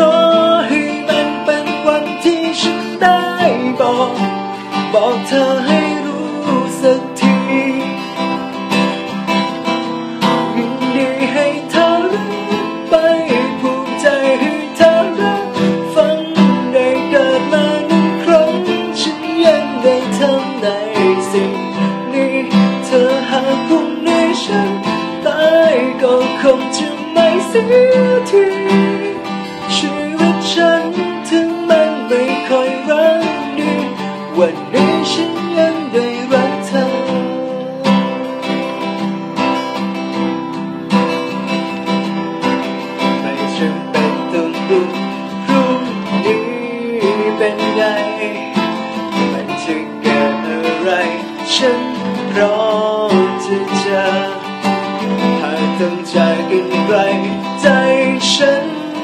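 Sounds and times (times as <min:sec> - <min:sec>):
man singing: 0:00.0 - 0:40.2, 0:40.8 - 0:59.0
acoustic guitar strumming: 0:00.0 - 0:59.0.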